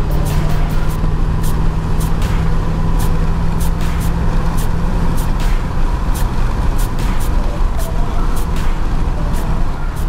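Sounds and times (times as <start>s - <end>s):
diesel engine under boost: 0.0s - 10.0s.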